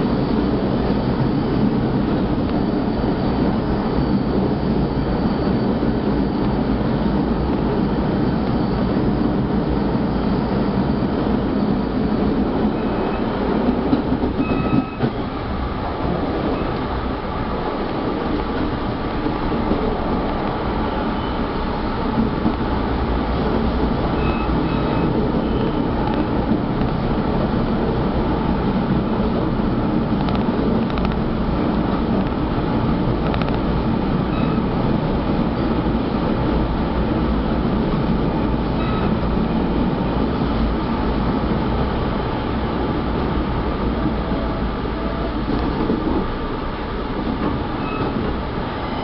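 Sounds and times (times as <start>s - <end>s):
train rumbling on rails: 0.0s - 49.0s.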